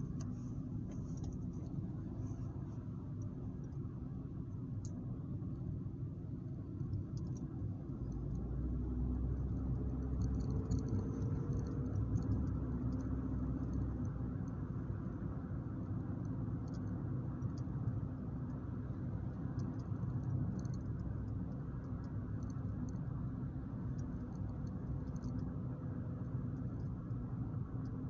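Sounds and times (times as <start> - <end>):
faint ticks and clicks: 0.0 - 5.7, 6.3 - 28.0
car engine and road noise: 0.0 - 28.0.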